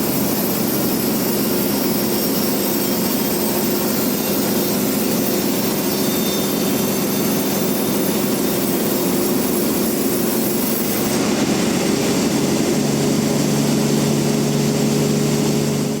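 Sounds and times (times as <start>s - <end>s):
band sawmill running: 0.0s - 16.0s.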